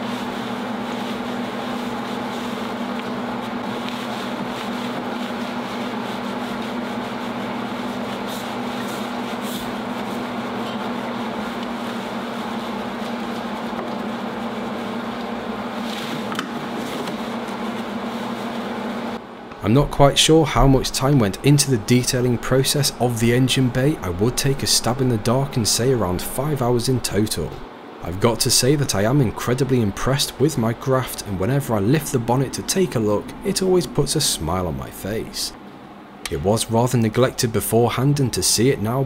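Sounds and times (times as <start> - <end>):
machine droning: 0.0 - 39.0.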